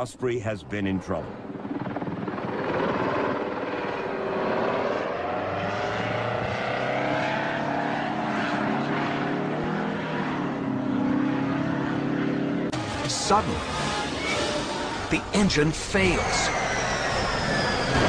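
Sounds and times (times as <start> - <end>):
aircraft engines and rotors: 0.0 - 18.0.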